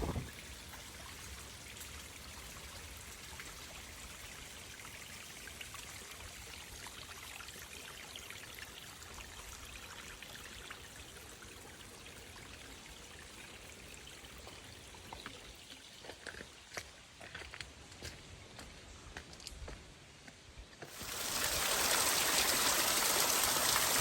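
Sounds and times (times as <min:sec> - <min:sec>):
trickle of running water: 0:00.0 - 0:16.9, 0:20.9 - 0:24.0
water drips and splashes: 0:00.0 - 0:17.7, 0:20.8 - 0:24.0.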